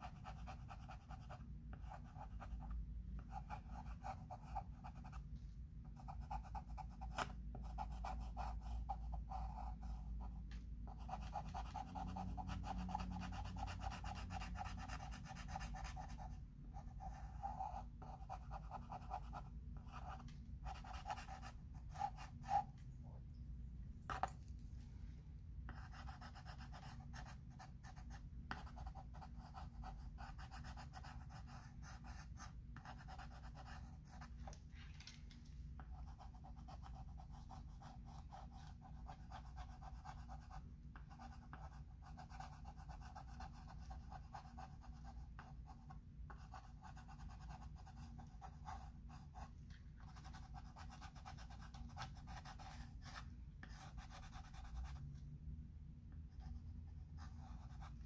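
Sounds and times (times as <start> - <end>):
chalk scratching on chalkboard: 0.0 - 5.2, 6.0 - 22.7, 25.7 - 34.6, 35.8 - 55.0.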